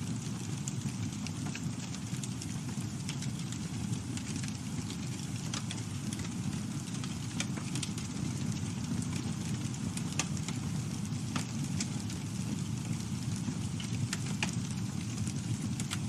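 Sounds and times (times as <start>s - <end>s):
burning wood crackling and popping: 0.0s - 16.0s
low roar of flames: 0.0s - 16.0s.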